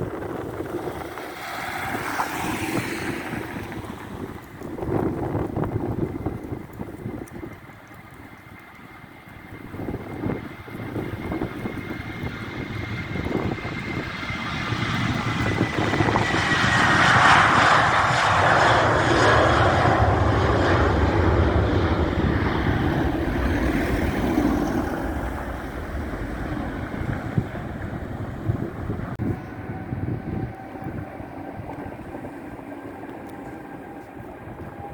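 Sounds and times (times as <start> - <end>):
jet airliner roar passing: 0.0 - 34.9.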